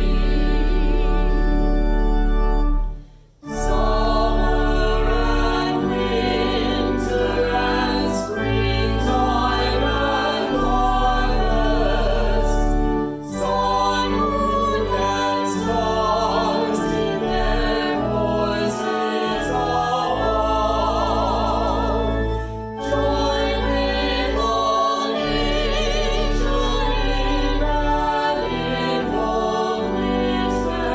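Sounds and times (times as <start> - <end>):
organ chords: 0.0 - 30.9
voices singing a hymn: 0.0 - 30.9.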